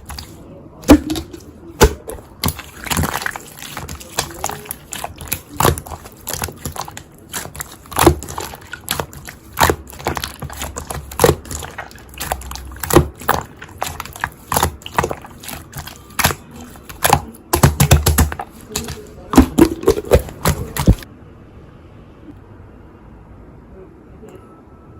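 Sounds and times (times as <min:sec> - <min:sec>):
slime squeezed by hand popping: 0:00.9 - 0:21.0.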